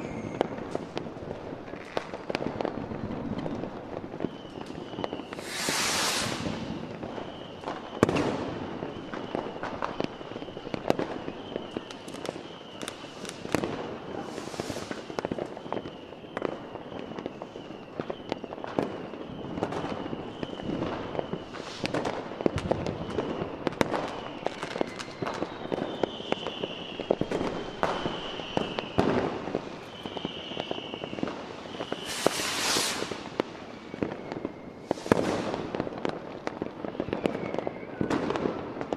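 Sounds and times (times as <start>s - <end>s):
gliding firework whistles: 0.0s - 1.1s, 1.8s - 38.9s
firework bangs and crackling: 0.0s - 38.9s
hissing firework bursts: 0.1s - 38.9s.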